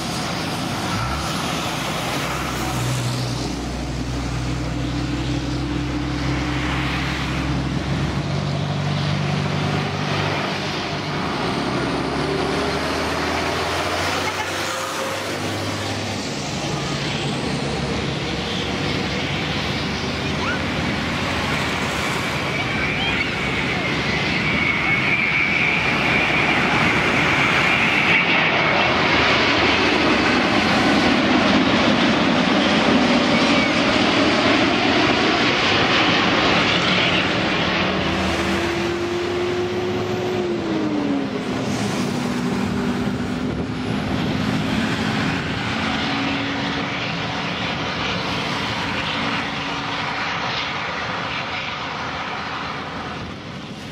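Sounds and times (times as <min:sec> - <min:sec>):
jet engines whining and rushing: 0:00.0 - 0:53.9.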